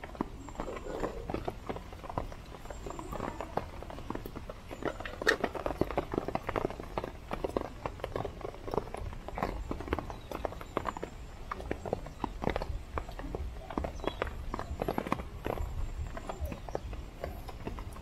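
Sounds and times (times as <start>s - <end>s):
rain pattering on tarp: 0.0s - 18.0s.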